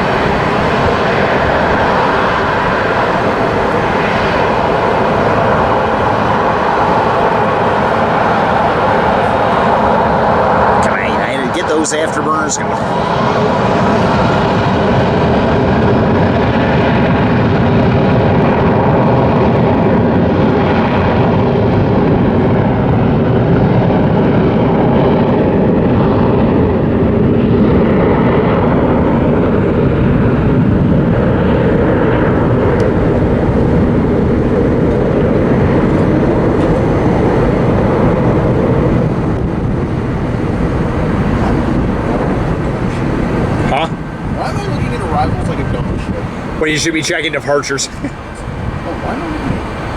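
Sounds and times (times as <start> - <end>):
jet engines with whine: 0.0 - 49.9.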